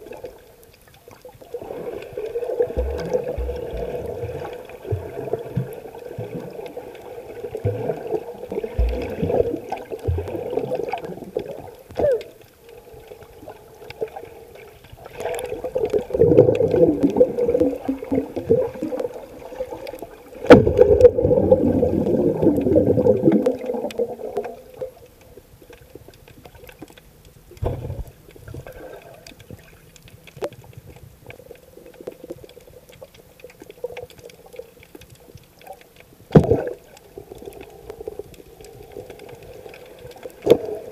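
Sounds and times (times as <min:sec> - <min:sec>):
underwater sloshing and gurgling: 0:00.0 - 0:40.9.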